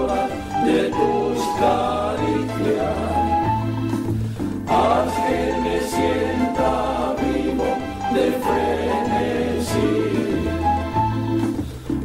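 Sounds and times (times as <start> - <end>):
background music with bass and chords: 0.0 - 12.0.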